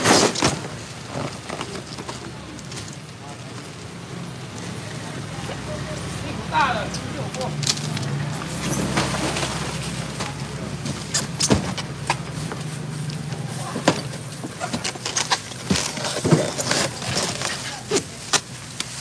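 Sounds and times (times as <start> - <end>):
styrofoam boxes being handled: 0.0 - 5.6, 7.0 - 19.0.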